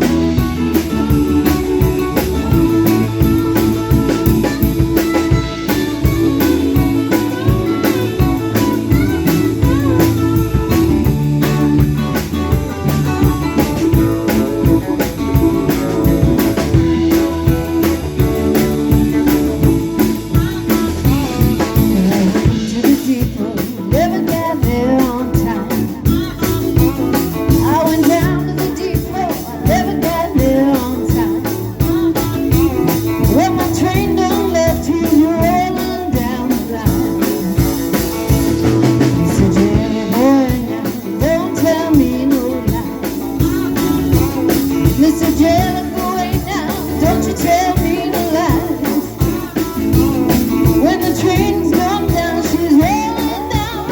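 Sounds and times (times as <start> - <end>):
person singing: 0.0 - 53.9
rock band playing: 0.0 - 53.9.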